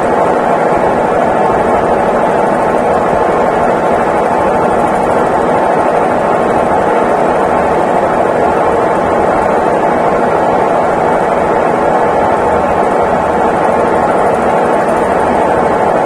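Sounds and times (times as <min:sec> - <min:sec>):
washing machine whirring: 0:00.0 - 0:16.0.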